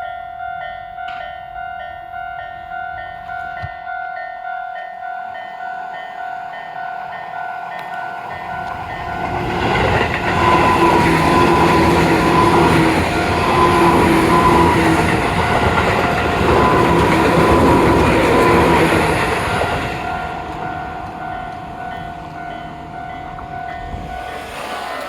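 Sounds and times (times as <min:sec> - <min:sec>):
steady high tone: 0:00.0 - 0:25.0
train running past: 0:01.0 - 0:25.0.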